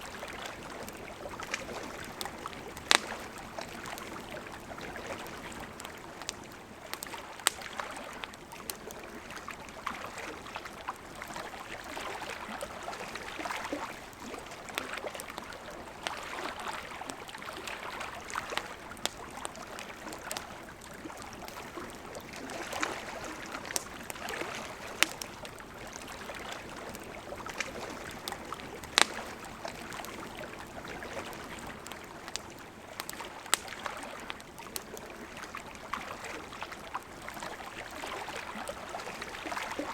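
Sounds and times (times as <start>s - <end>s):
campfire wood crackling: 0.0s - 39.9s
river flowing: 0.0s - 39.9s.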